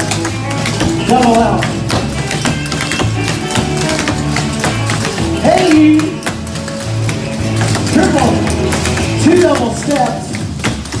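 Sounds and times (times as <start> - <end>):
clogging shoe taps on wood: 0.0 - 11.0
recorded song with steady beat: 0.0 - 11.0.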